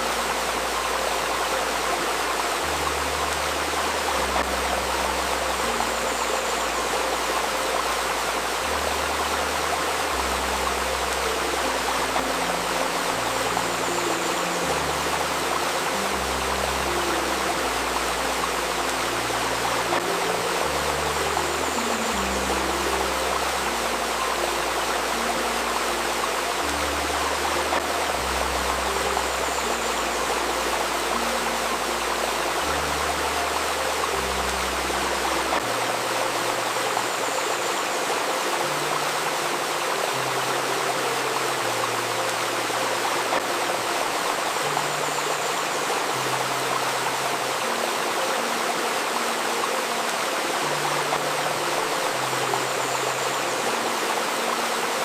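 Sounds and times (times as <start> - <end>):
babbling river stream: 0.0 - 55.0
low sustained synth notes: 0.0 - 55.0.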